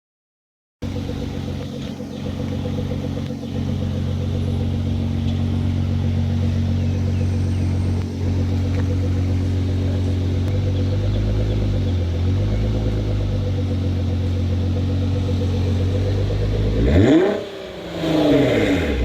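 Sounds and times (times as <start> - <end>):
car engine idling: 0.8 - 19.0.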